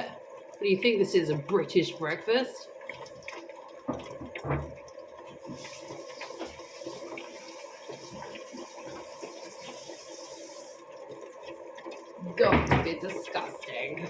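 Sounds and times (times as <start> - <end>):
kitchen tap running: 0.0 - 14.0.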